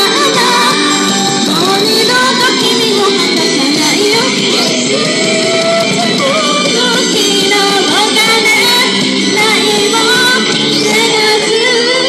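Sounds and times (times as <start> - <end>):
pop-rock music: 0.0 - 12.0
woman singing: 0.0 - 12.0.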